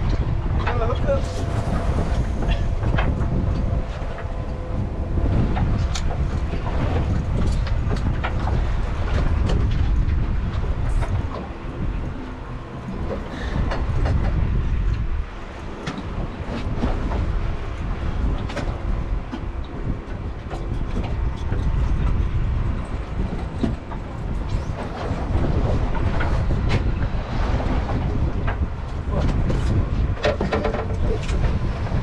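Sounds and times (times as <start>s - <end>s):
hull slapping on waves: 0.0s - 32.0s
outboard motor droning: 0.0s - 32.0s.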